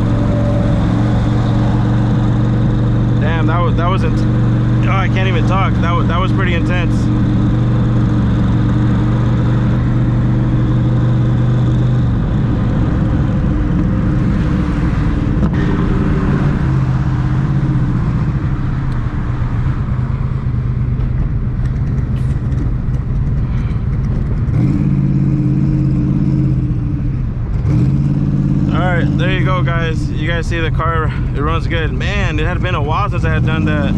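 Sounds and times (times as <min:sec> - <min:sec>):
car engine cruising: 0:00.0 - 0:33.9
road noise: 0:00.0 - 0:33.9.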